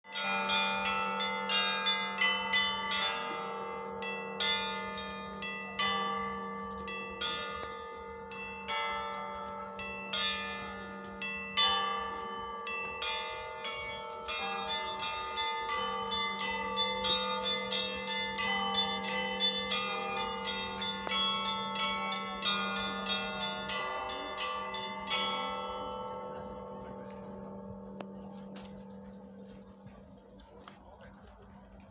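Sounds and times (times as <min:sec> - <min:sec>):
small bells struck rhythmically: 0:00.0 - 0:28.3
large bell humming: 0:00.1 - 0:30.4.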